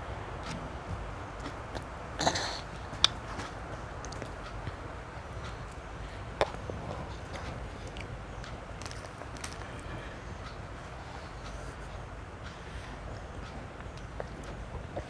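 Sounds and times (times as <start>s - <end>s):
steady low hum: 0.0s - 15.0s
mouth clicks and smacks eating: 1.4s - 15.0s.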